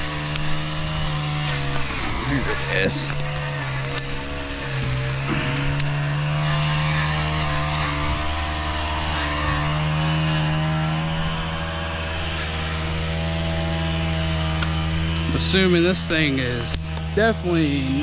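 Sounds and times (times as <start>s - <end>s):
small gas engine running: 0.0s - 18.0s.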